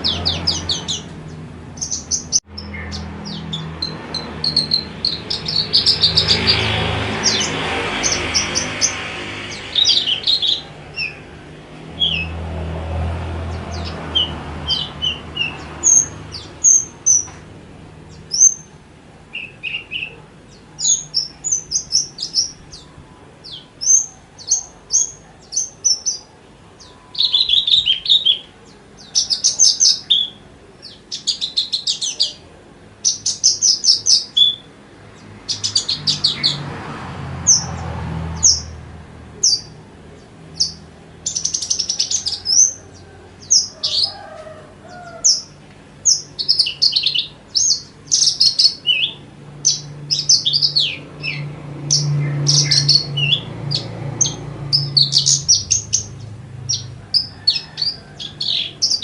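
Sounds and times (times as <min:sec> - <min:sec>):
bird singing chirps and trills: 0:00.0 - 0:36.7, 0:37.4 - 0:38.8, 0:39.4 - 0:59.0.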